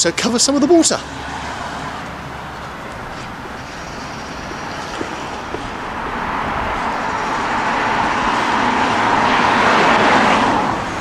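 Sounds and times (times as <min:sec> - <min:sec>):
road traffic noise: 0:00.0 - 0:11.0
vehicle passing close by: 0:01.0 - 0:11.0.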